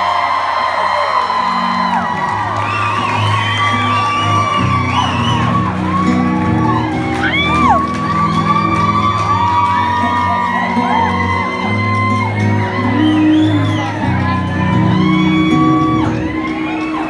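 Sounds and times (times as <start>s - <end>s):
audience whooping and shouting: 0.0s - 17.0s
live band holding chords: 1.0s - 17.0s.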